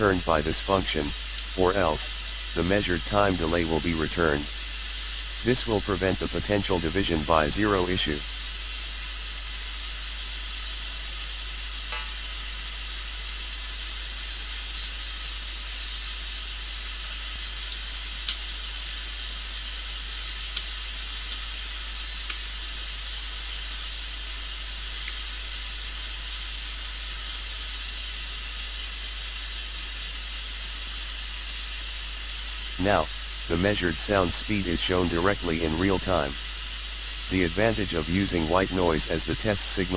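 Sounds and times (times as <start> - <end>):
white noise hiss from loudspeaker: 0.0 - 39.9.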